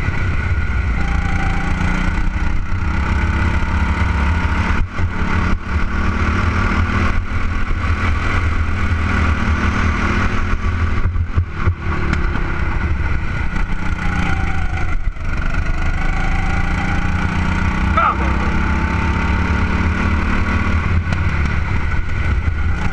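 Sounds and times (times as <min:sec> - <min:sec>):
go-kart engine running hard: 0:00.0 - 0:22.9.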